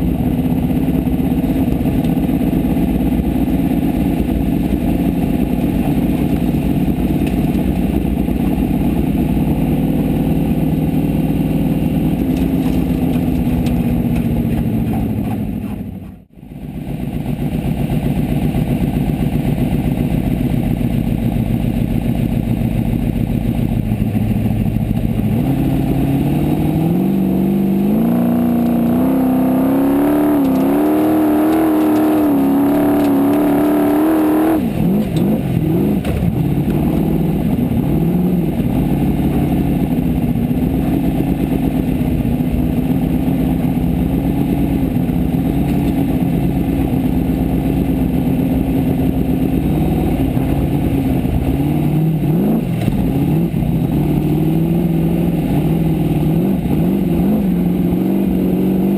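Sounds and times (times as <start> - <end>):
race buggy engine revving: 0.0 - 16.3, 17.4 - 58.9.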